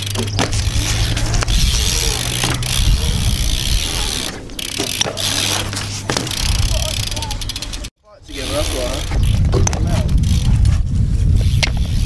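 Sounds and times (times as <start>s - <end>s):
bike tyres rumbling on concrete: 0.0s - 12.0s.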